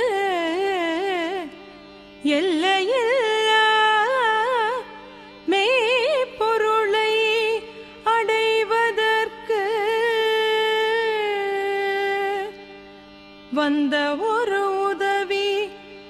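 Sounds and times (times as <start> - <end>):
person singing into a microphone: 0.0 - 12.8, 13.5 - 16.0.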